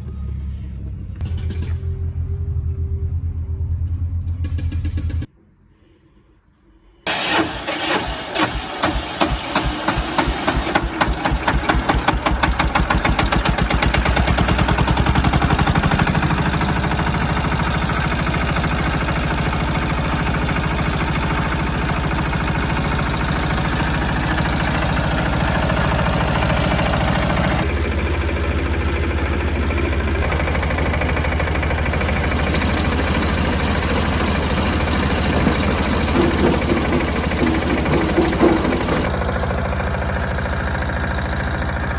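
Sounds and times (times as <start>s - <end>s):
diesel engine running: 0.0s - 5.3s, 7.1s - 41.9s.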